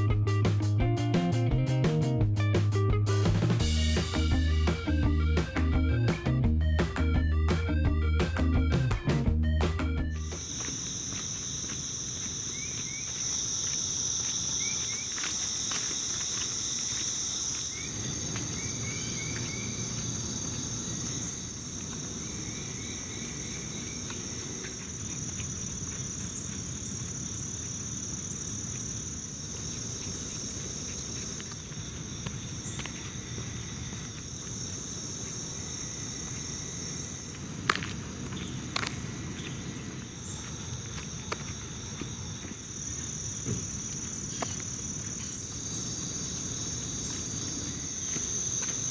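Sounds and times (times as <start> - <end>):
insects buzzing: 9.6 - 48.9.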